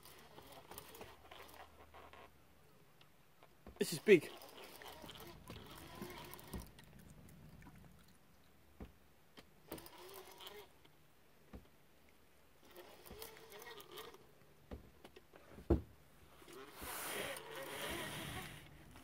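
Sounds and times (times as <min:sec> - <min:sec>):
faint irregular clicks and knocks: 0:00.0 - 0:16.6.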